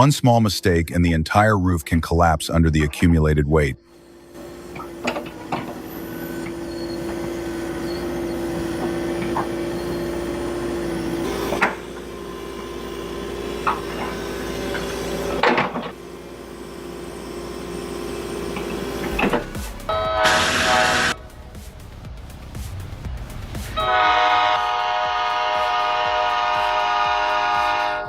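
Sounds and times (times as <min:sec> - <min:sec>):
machine engine humming: 0:03.7 - 0:28.0.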